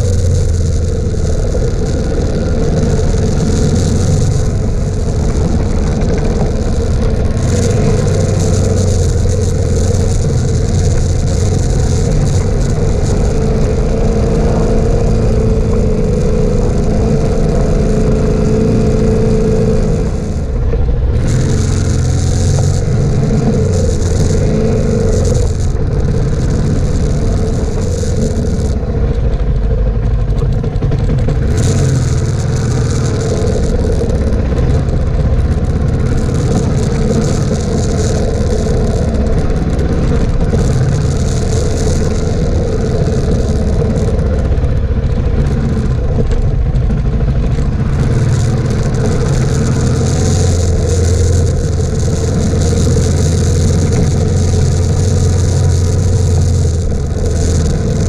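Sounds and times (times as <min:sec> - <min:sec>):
motorcycle engine running: 0:00.0 - 0:58.0
wind and tyre noise: 0:00.0 - 0:58.0.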